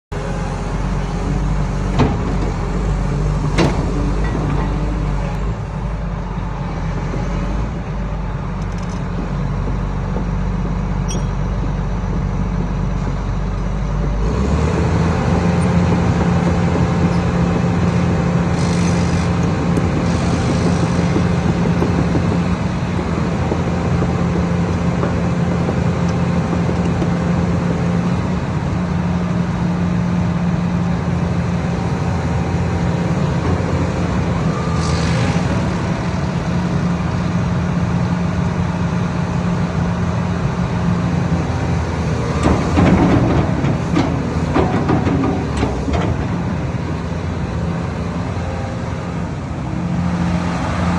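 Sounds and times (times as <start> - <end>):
excavator diesel engine running: 0.1 - 50.9.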